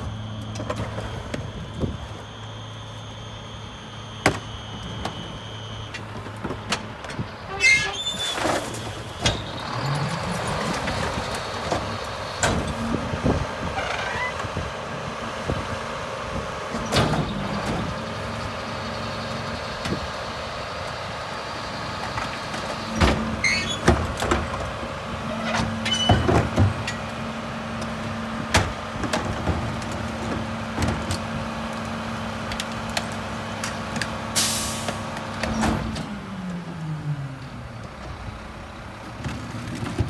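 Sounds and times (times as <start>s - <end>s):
garbage truck diesel engine: 0.0s - 40.0s.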